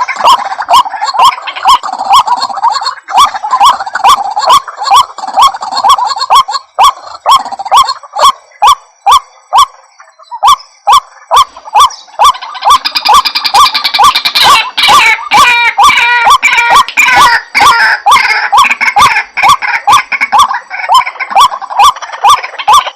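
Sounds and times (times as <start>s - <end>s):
other birds calling: 0.0s - 22.9s
waterhen harsh calls: 0.0s - 22.9s.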